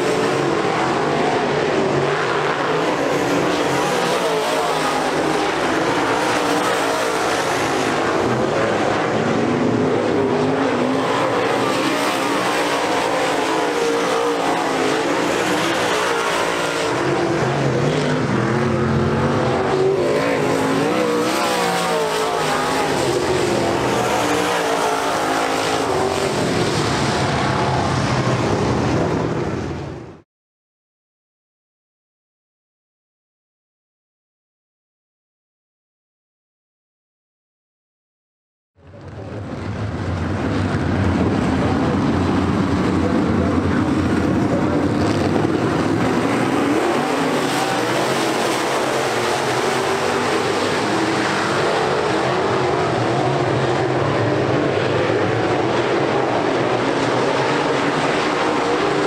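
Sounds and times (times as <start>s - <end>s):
race car engines running hard: 0.0s - 30.2s, 38.8s - 59.0s.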